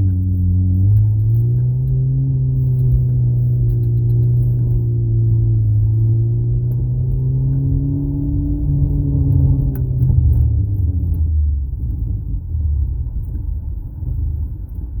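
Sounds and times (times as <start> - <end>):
car engine revving: 0.0 - 13.2.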